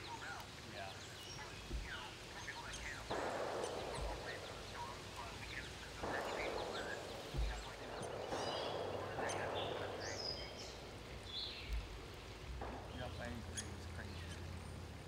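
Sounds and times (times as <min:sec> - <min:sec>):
rushing bursts of noise: 0:00.0 - 0:15.0
songbirds chirping: 0:00.0 - 0:15.0.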